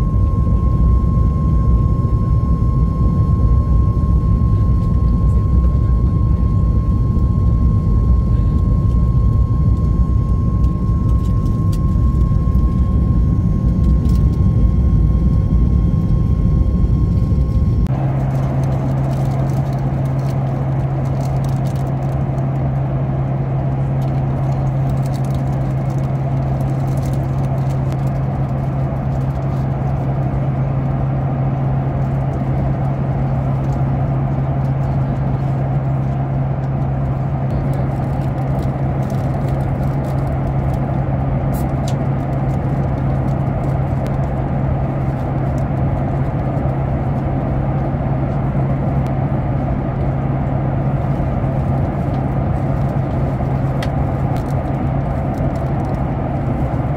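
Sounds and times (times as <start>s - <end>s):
airliner cabin noise: 0.0s - 56.9s.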